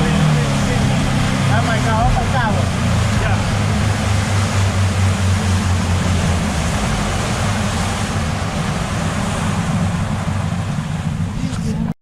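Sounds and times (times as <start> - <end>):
hiss of wind and water: 0.0 - 11.9
boat motor running: 0.0 - 12.0.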